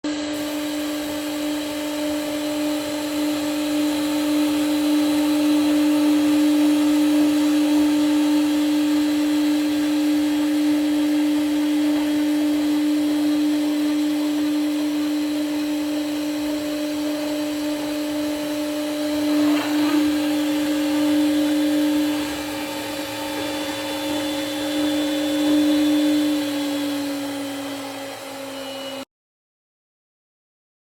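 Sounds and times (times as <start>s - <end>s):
milling machine spindle whine: 0.1s - 29.1s.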